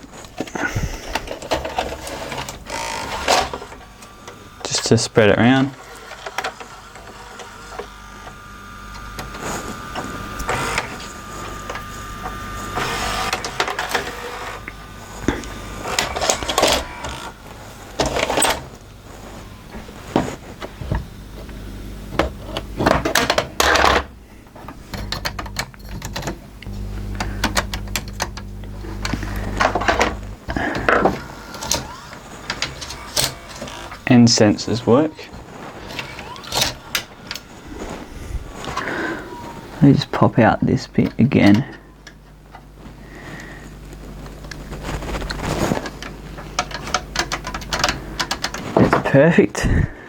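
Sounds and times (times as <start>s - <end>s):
gear clicks and clunks: 0.0s - 40.3s, 43.4s - 49.9s
tape mechanism motors whirring: 0.0s - 40.3s.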